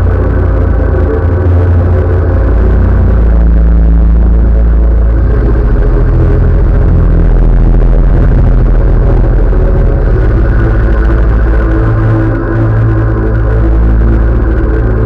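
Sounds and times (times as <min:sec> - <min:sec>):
electronic synthesizer music: 0:00.0 - 0:15.0.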